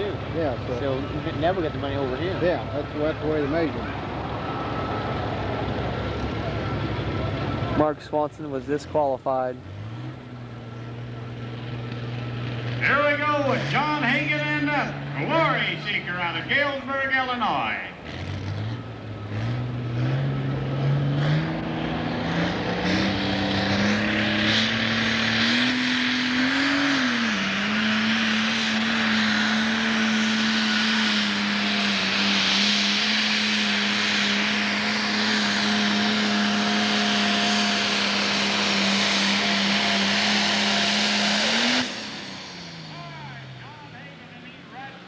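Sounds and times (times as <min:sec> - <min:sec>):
diesel tractor engine revving: 0:00.0 - 0:45.0.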